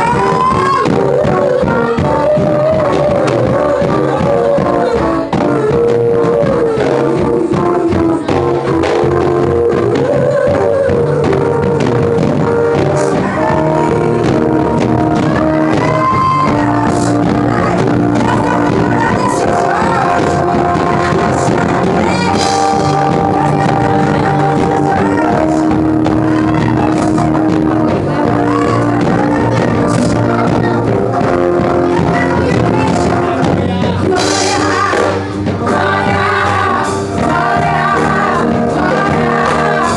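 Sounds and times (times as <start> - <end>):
live rock-style band: 0.0 - 39.9
people singing: 0.0 - 39.9.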